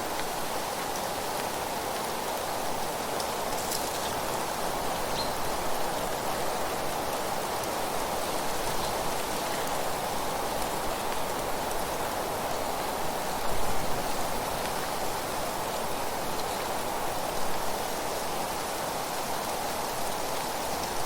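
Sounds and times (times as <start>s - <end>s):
rain-like rushing hiss: 0.0s - 21.0s.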